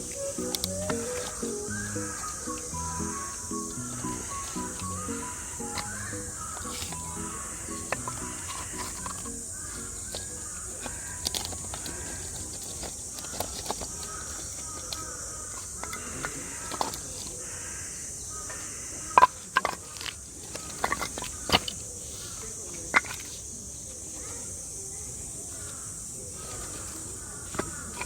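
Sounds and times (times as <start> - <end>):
bird calls: 0.0 - 28.0
cicada chorus: 0.0 - 28.0.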